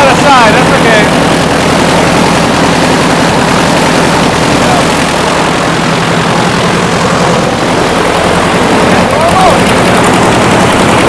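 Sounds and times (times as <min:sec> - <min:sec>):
aircraft engine running: 0:00.0 - 0:11.0.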